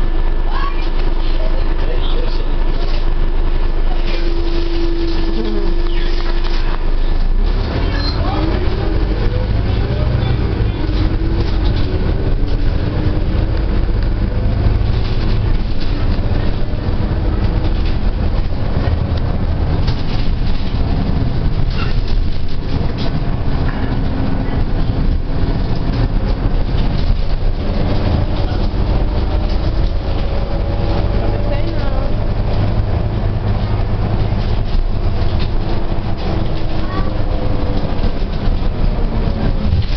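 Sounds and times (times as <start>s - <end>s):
bus engine and road rumble: 0.0s - 39.9s
rattles: 4.5s - 39.9s.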